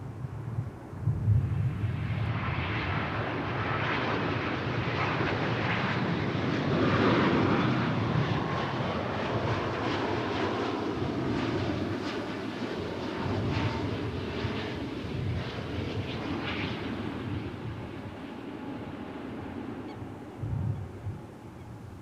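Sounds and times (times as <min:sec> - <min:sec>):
jet engines roaring: 0:00.1 - 0:22.0.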